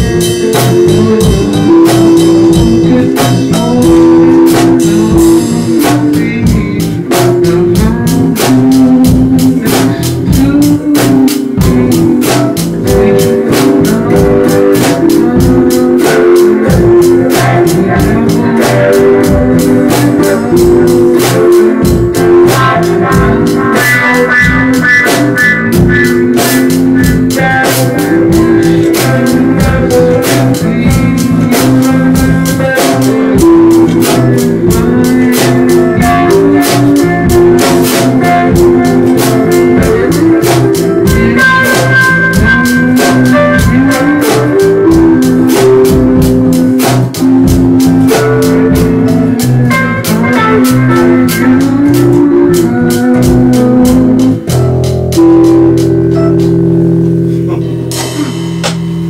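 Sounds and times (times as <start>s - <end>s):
bass guitar: 0.0s - 59.0s
drum kit beat: 0.0s - 59.0s
electric guitar: 0.0s - 59.0s.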